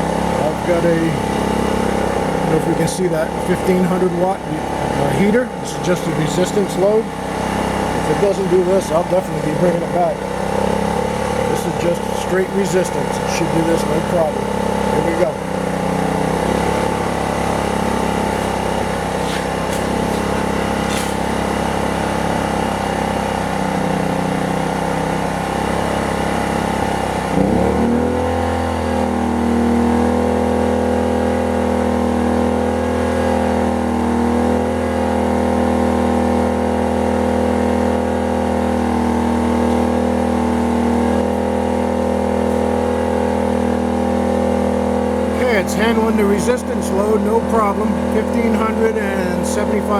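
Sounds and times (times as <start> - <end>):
generator engine running and revving: 0.0 - 49.9.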